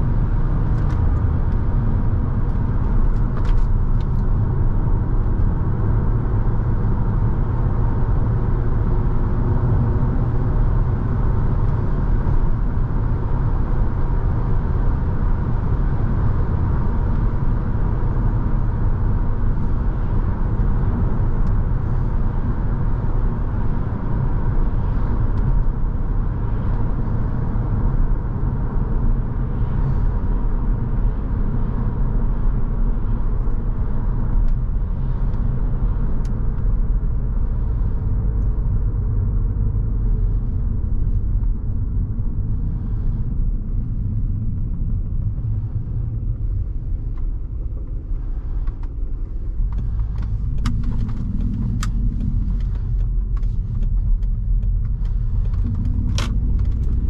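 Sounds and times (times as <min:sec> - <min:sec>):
car engine and exhaust drone: 0:00.0 - 0:57.0
tyre and road noise: 0:00.0 - 0:57.0.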